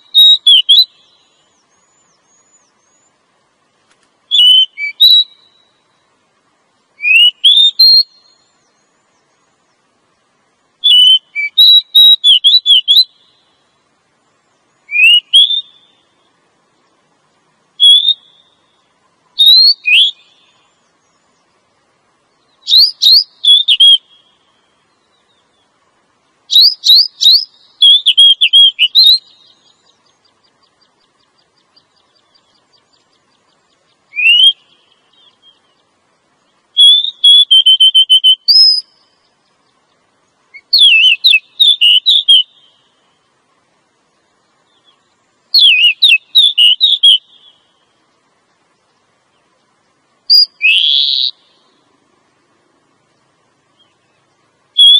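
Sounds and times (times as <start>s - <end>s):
bird calling with whistled notes: 0.0s - 16.5s, 17.3s - 21.6s, 22.2s - 43.4s, 44.0s - 48.2s, 49.2s - 52.0s, 53.2s - 54.9s.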